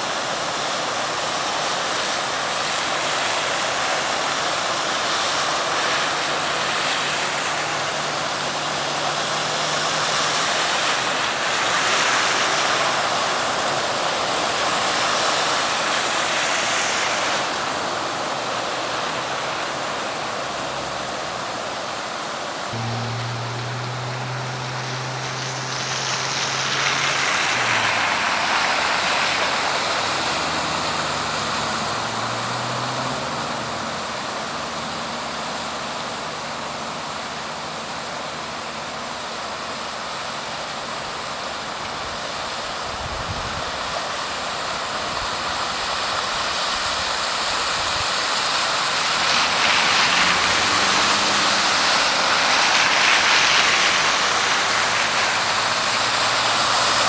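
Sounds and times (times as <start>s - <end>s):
floodwater rushing: 0.0s - 57.0s
low hum of vehicle engines: 0.0s - 57.0s.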